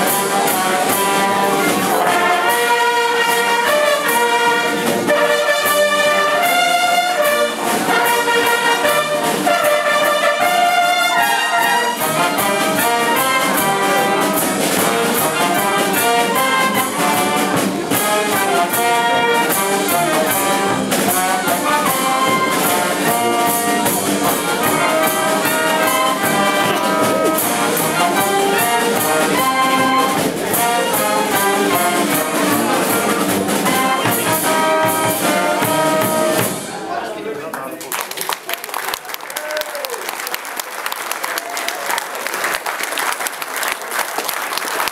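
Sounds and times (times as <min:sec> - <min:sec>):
brass band with bugles: 0:00.0 - 0:37.0.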